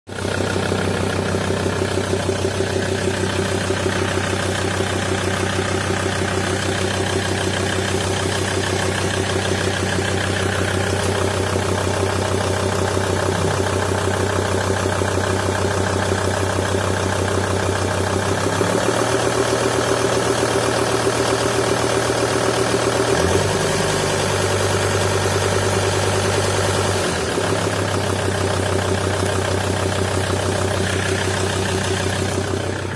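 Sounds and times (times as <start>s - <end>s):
diesel engine idling: 0.1s - 32.9s.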